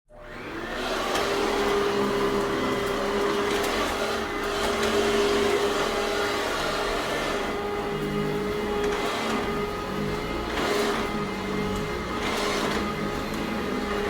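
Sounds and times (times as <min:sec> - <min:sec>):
hand vacuum running: 0:00.1 - 0:14.0.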